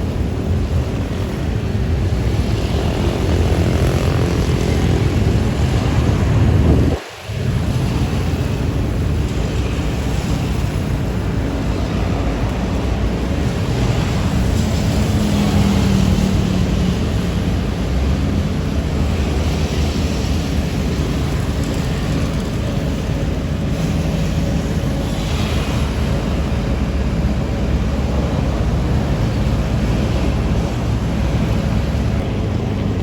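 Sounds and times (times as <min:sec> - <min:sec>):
diesel engines of paving machinery: 0:00.0 - 0:33.0.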